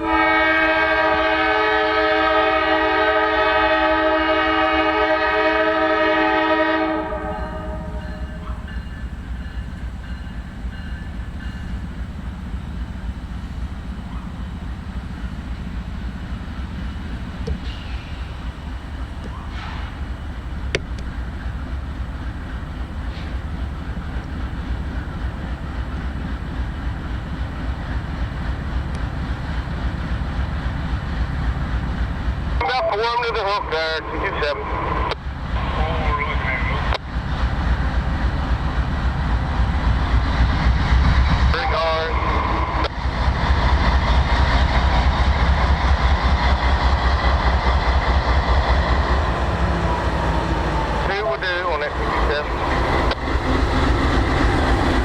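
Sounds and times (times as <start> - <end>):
diesel locomotive rumble: 0.0 - 55.0.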